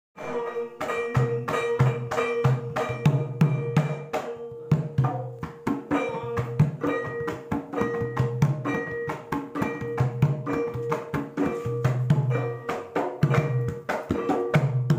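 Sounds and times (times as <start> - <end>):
hand drum strokes: 0.2 - 14.9
struck bronze metallophones: 0.2 - 14.9.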